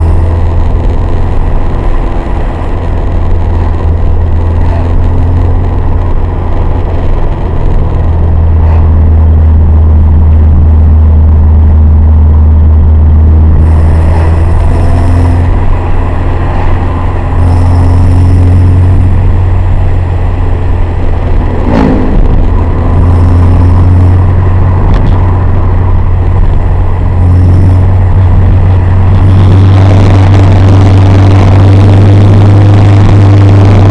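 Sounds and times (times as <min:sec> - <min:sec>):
car exhaust drone: 0:00.0 - 0:33.9.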